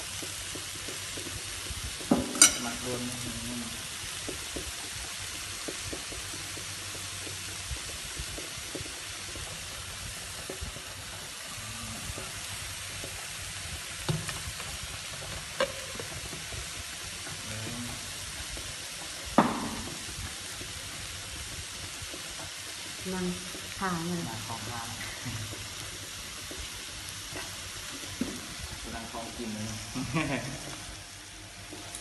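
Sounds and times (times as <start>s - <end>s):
pork sizzling on grill pan: 0.0s - 32.0s.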